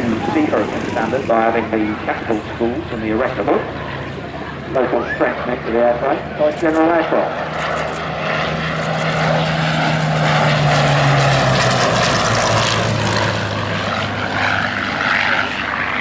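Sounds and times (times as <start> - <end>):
piston aircraft engine flying past: 0.0 - 16.0.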